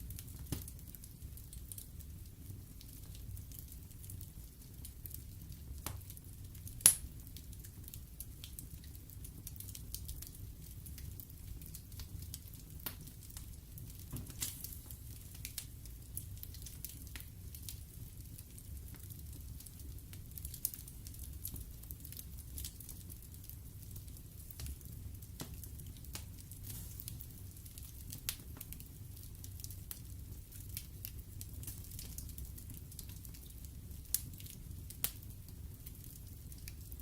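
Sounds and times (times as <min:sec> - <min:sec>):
logs crackling and popping: 0:00.0 - 0:37.0
wood fire burning: 0:00.0 - 0:37.0.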